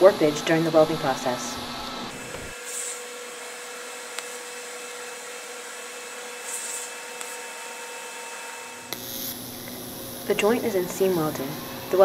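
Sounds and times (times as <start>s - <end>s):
welding equipment hiss and hum: 0.0s - 12.0s.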